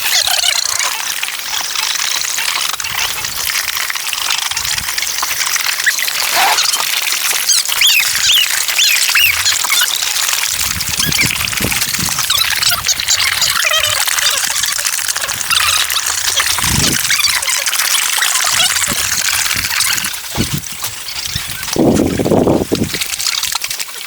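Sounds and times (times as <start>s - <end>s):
high squeaking chirps: 0.0s - 3.6s, 5.0s - 22.3s.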